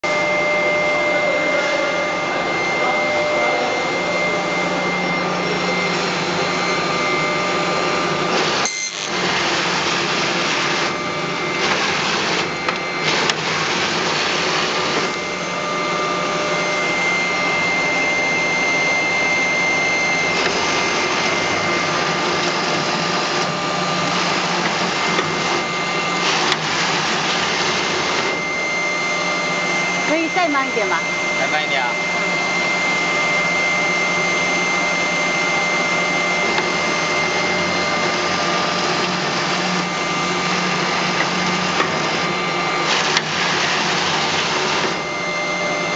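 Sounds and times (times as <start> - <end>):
binding machine running: 0.0 - 33.1, 34.0 - 45.9.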